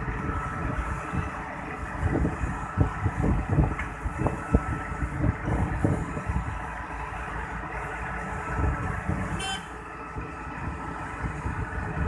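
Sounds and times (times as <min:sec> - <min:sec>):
diesel engines running: 0:00.0 - 0:12.0.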